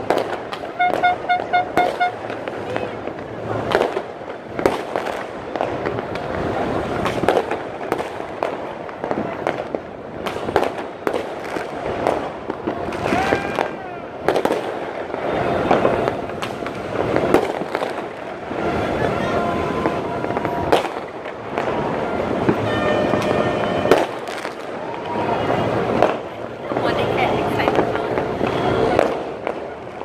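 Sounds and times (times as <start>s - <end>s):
fireworks bangs and pops: 0.0s - 30.0s.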